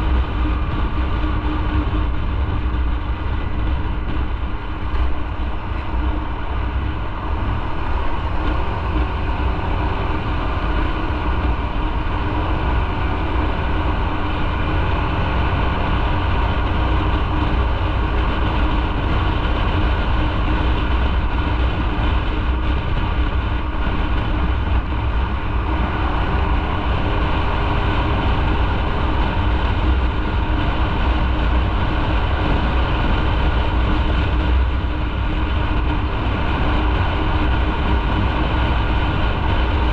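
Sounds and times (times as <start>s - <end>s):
motorcycle engine hum: 0.0s - 39.9s
road and wind rumble: 0.0s - 39.9s.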